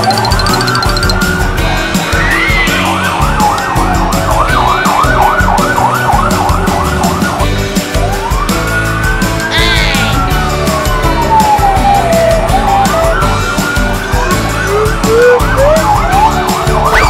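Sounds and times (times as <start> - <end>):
background music with steady beat: 0.0 - 17.0
emergency siren wailing and yelping: 2.1 - 9.0, 10.1 - 17.0.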